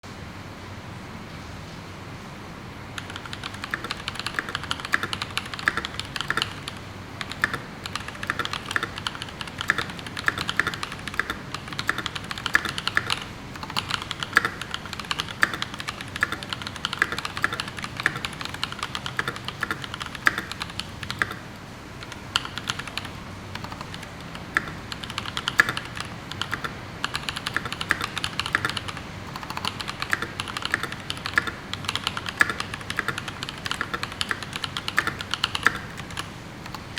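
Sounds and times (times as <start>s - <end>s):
fast mechanical keyboard typing: 2.9s - 36.9s.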